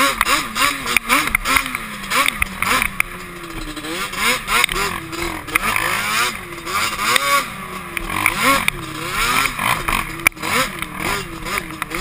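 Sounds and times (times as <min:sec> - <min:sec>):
quad engine revving: 0:00.0 - 0:12.0.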